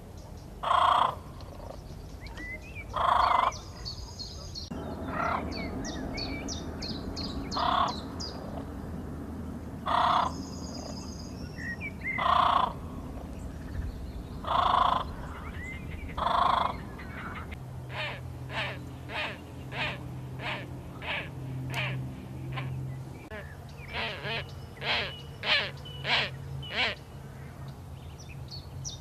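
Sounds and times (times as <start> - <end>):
birds chirping and calling: 0.0 - 9.0, 9.7 - 29.0.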